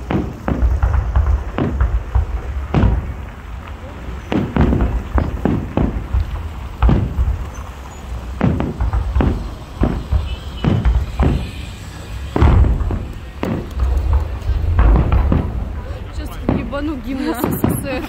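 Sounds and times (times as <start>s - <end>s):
fireworks shells bursting: 0.0s - 18.0s.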